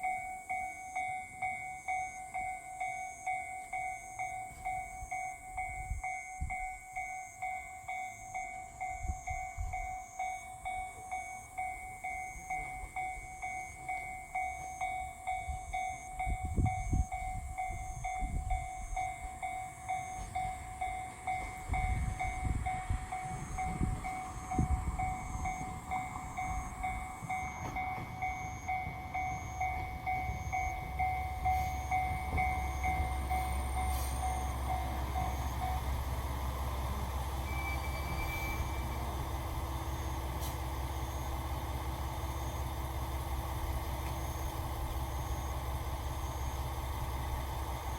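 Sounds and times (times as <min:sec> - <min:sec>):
passing train rumbling: 0:00.0 - 0:47.9.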